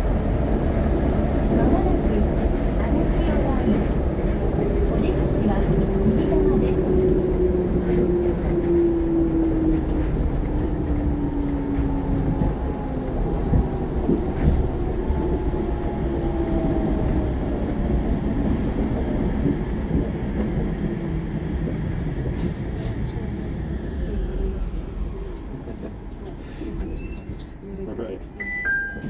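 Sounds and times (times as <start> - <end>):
train tyres rumbling on guideway: 0.0 - 28.4.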